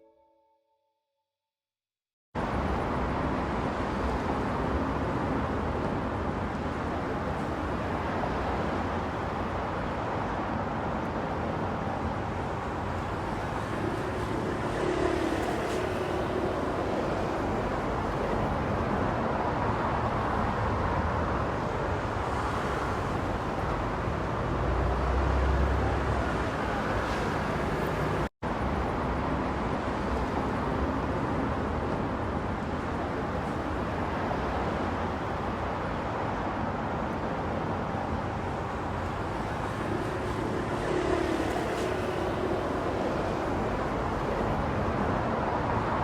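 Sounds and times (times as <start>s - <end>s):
road and tyre noise: 2.4s - 46.0s.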